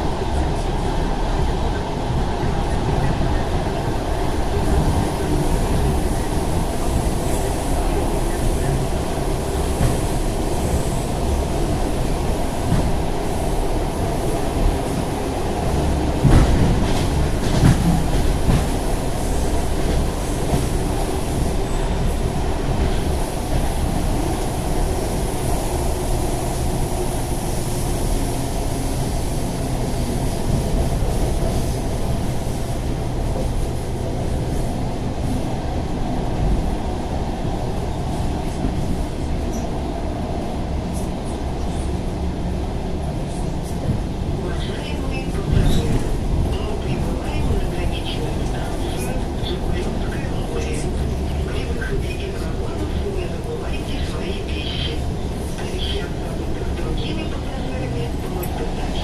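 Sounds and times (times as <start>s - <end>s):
train rumbling along track: 0.0s - 59.0s.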